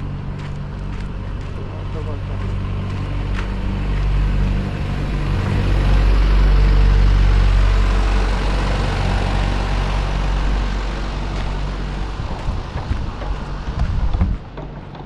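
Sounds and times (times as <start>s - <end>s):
low engine hum: 0.0s - 15.0s
road and wind noise: 0.0s - 15.0s.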